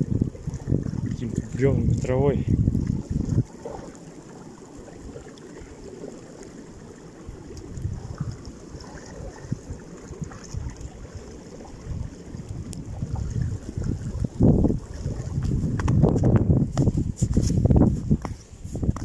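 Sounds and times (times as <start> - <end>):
river running through pipes: 0.0 - 19.0
wind rumble on microphone: 0.0 - 19.0.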